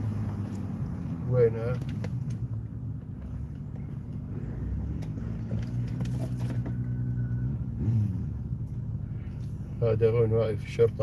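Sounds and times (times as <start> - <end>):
car engine hum inside cabin: 0.0 - 11.0.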